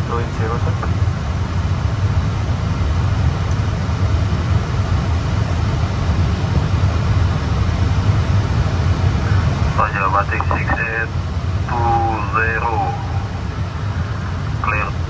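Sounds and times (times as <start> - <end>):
cockpit low rumble: 0.0 - 15.0.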